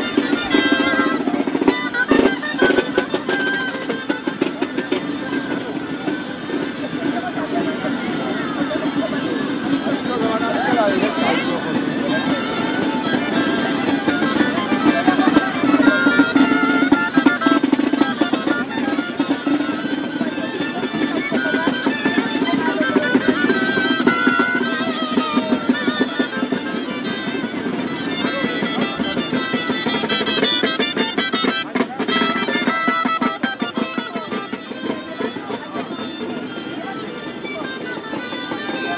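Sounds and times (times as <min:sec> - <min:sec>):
shawms playing a festival tune: 0:00.0 - 0:38.9.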